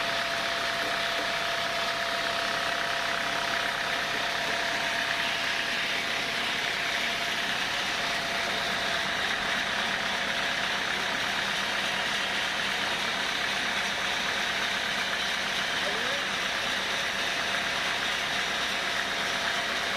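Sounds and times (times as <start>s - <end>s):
sawmill saw cutting timber: 0.0s - 19.9s.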